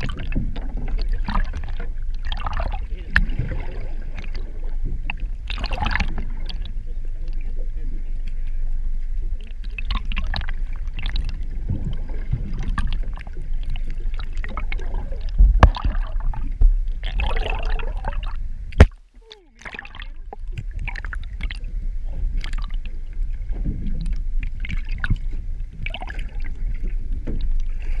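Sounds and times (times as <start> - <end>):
underwater clicks and knocks: 0.0 - 7.4, 9.4 - 28.0
muffled underwater water rumble: 0.0 - 28.0.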